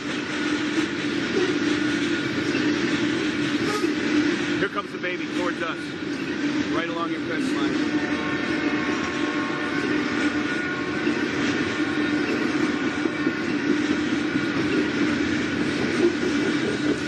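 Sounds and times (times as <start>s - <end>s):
train passing on rails: 0.0s - 17.0s.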